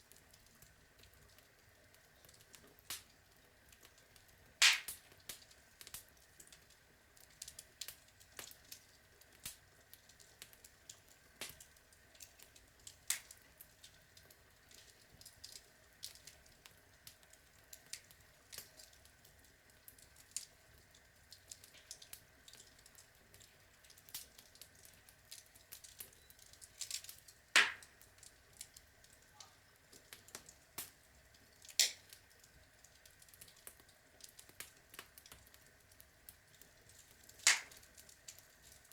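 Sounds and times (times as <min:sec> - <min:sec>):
log fire crackling: 0:00.0 - 0:38.9
burning logs popping: 0:00.1 - 0:38.9.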